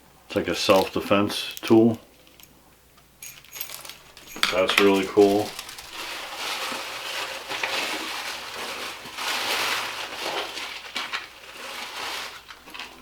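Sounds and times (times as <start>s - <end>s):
packaging rustling and crinkling: 0.5s - 2.4s, 3.2s - 13.0s.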